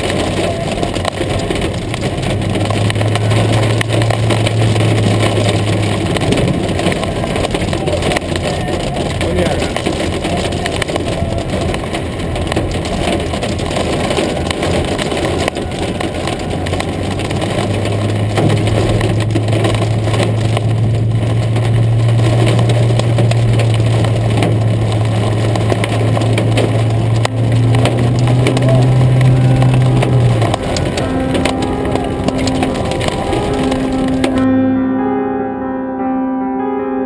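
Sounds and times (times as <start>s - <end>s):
rain and hail on car roof: 0.0s - 34.4s.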